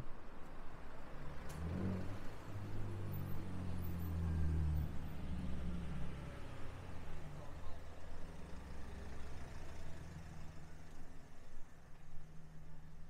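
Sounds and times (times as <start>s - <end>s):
cars driving past: 0.7s - 11.8s.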